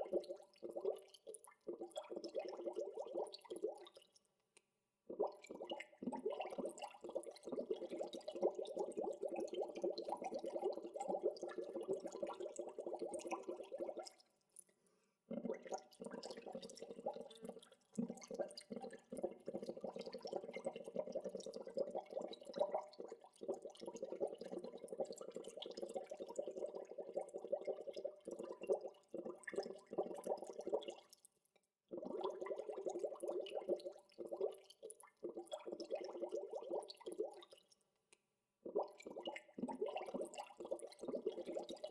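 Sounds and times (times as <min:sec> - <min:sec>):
water bubbles gurgling and popping: 0:00.0 - 0:04.2, 0:05.1 - 0:14.3, 0:15.3 - 0:31.3, 0:31.9 - 0:37.8, 0:38.6 - 0:41.9.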